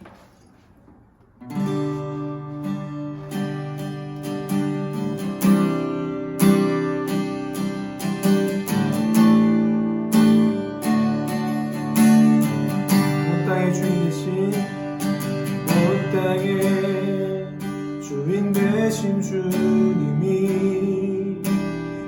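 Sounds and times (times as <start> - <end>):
acoustic guitar strumming chords: 1.4 - 22.0.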